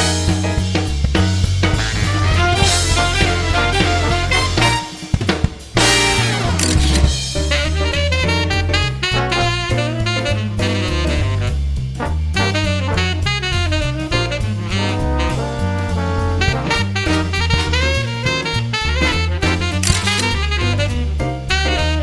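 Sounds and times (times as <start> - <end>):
drum kit swing beat: 0.0 - 22.0
walking bass: 0.0 - 22.0
saxophone: 1.8 - 5.0, 5.8 - 11.7, 12.4 - 22.0.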